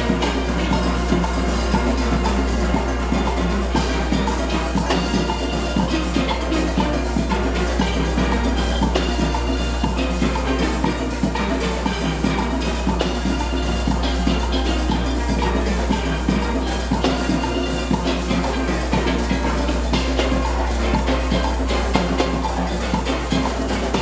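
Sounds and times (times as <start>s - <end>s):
drums and percussion beat: 0.0s - 24.0s
steel pan orchestra playing: 0.0s - 24.0s.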